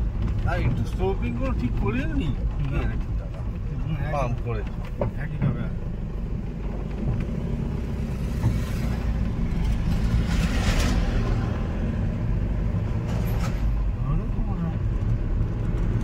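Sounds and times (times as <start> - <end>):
road noise: 0.0 - 16.0
truck engine rumble: 0.0 - 16.0.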